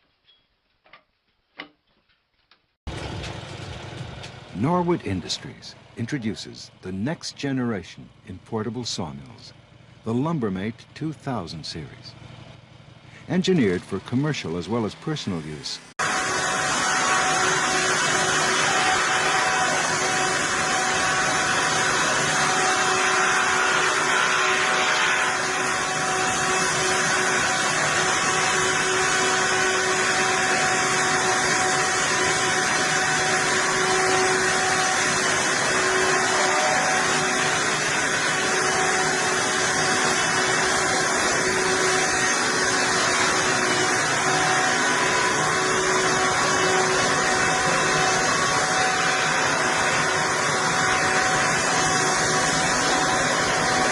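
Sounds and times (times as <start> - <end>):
sawmill machine whirring: 2.9 - 53.9.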